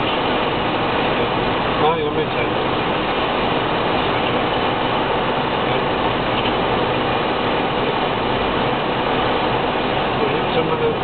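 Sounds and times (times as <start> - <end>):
car engine noise: 0.0 - 11.0
tyre noise on wet road: 0.0 - 11.0.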